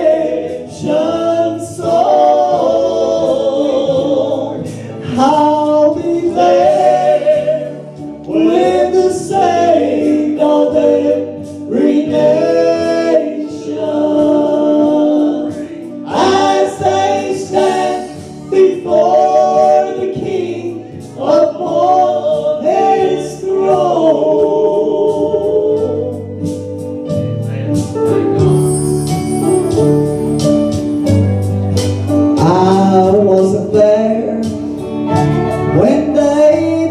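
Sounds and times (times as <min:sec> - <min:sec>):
voices singing gospel song: 0:00.0 - 0:26.8, 0:32.2 - 0:36.9
instruments playing along: 0:00.0 - 0:36.9.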